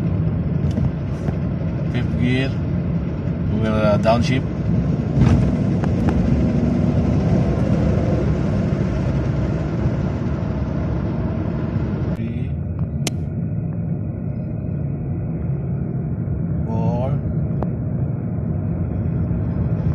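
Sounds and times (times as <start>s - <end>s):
car engine and road rumble: 0.0s - 19.9s.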